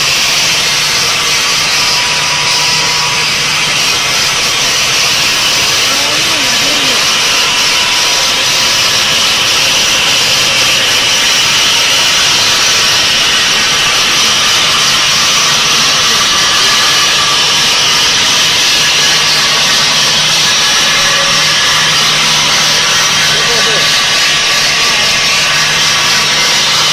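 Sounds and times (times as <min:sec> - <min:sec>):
saw blade grinding stone: 0:00.0 - 0:26.9.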